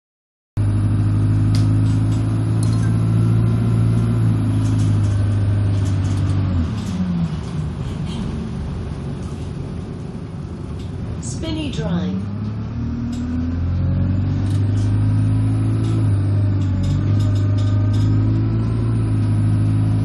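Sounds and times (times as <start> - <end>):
bus engine droning: 0.6 - 20.0.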